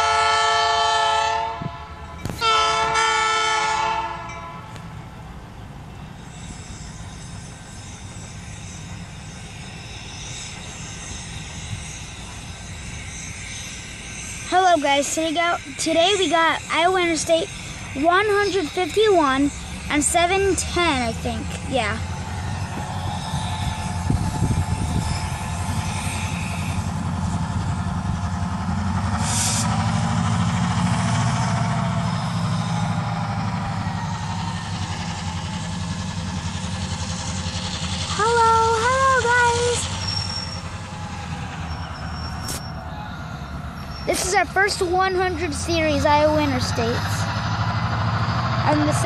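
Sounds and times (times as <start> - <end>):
locomotives rumbling on track: 0.0 - 49.0.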